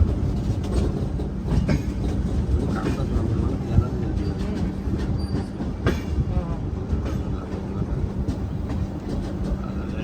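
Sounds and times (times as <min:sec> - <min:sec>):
train coach rumbling on rails: 0:00.0 - 0:10.0.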